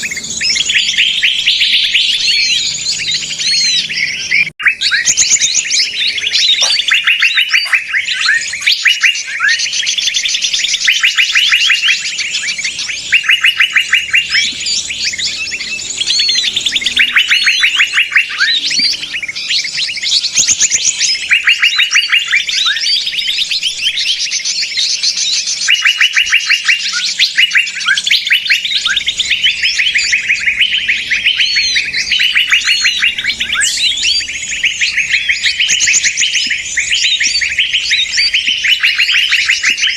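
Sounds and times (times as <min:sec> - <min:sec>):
songbirds chattering and trilling: 0:00.0 - 0:39.9.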